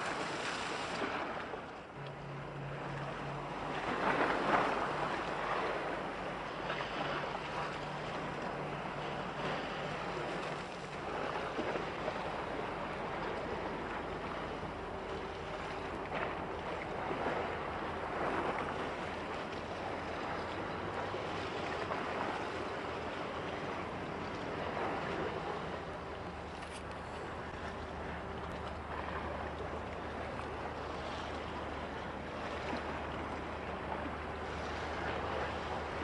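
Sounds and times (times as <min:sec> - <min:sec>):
faint low ship hum: 0:00.0 - 0:36.0
water: 0:00.0 - 0:36.0
wind: 0:00.0 - 0:36.0.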